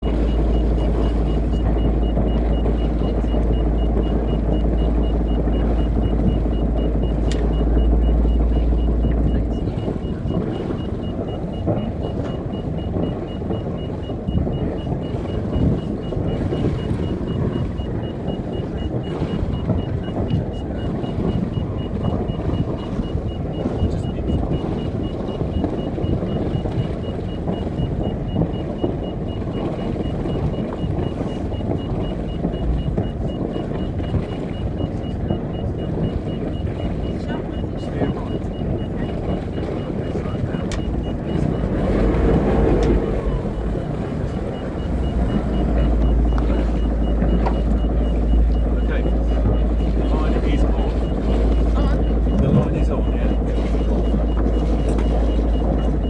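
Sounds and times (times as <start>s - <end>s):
boat diesel engine running: 0.0s - 56.0s
fast high-pitched beeping: 0.0s - 56.0s.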